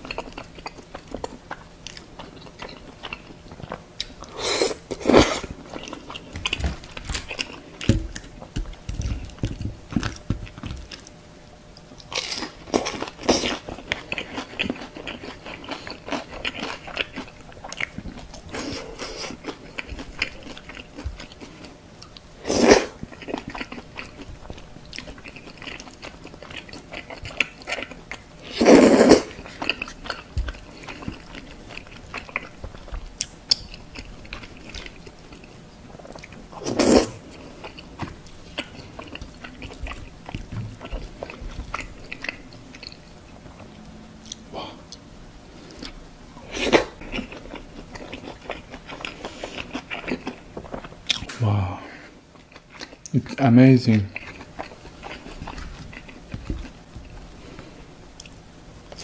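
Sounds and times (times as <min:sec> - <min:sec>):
person chewing wetly: 0:00.0 - 0:51.4, 0:52.3 - 0:53.2, 0:54.1 - 0:59.0.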